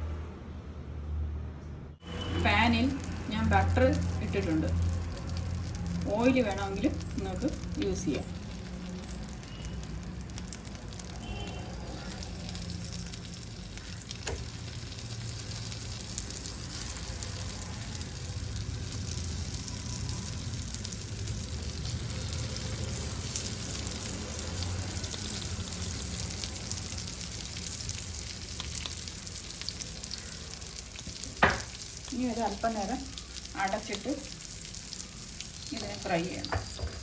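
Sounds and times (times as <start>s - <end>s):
dough frying in butter: 2.0s - 37.0s.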